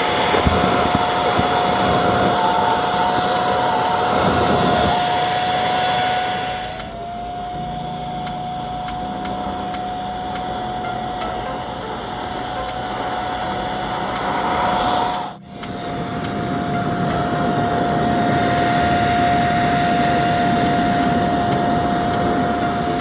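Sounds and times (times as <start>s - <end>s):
stick vacuum running: 0.0s - 23.0s.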